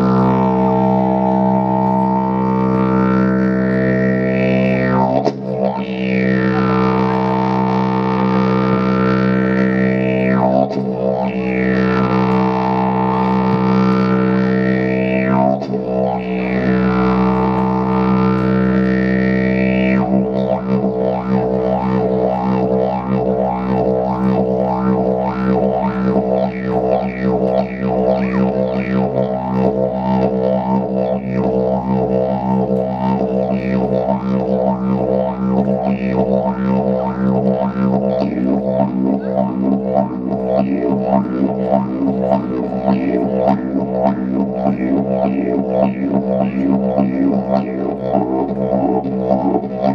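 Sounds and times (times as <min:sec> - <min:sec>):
didgeridoo drone: 0:00.0 - 0:49.9.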